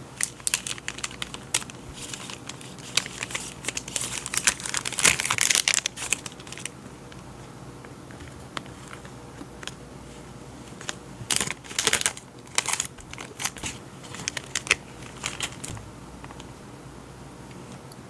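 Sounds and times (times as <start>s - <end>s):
paper and packaging crinkling: 0.0s - 6.8s, 8.1s - 16.5s.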